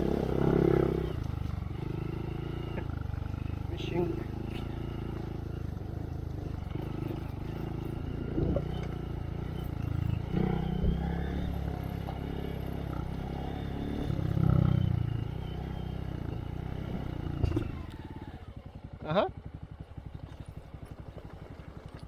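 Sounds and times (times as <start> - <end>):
motorcycle clattering over rough ground: 0.0 - 15.0, 16.2 - 22.0
motorcycle engine: 0.0 - 22.0.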